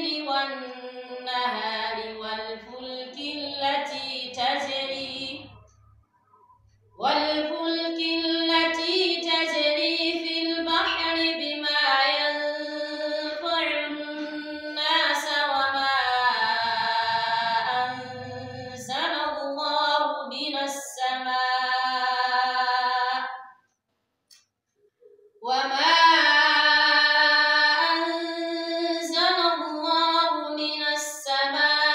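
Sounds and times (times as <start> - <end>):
woman chanting melodically: 0.0 - 6.0, 7.0 - 23.6, 25.4 - 31.9.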